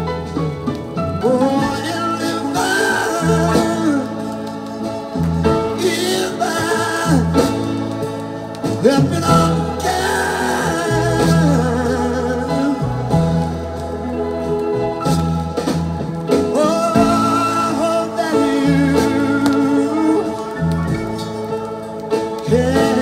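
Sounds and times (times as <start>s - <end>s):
rock soul ballad on vinyl: 0.0s - 23.0s
man singing: 1.1s - 14.5s, 16.2s - 23.0s
backing singers: 1.2s - 23.0s.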